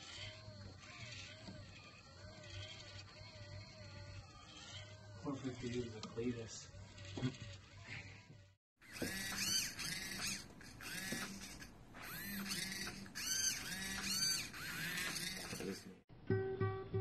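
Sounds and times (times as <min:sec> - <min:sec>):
servo motors whining: 0:00.0 - 0:16.0.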